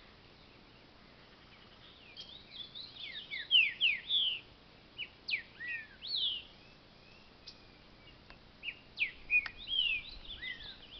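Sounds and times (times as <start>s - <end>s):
bird singing whistled phrases: 2.0s - 10.9s.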